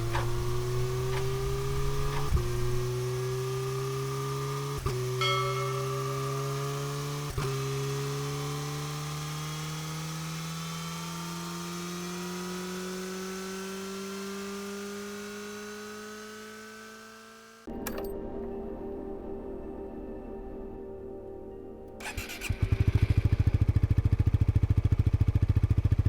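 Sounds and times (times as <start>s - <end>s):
motorcycle engine accelerating: 0.0s - 17.7s, 22.0s - 26.0s.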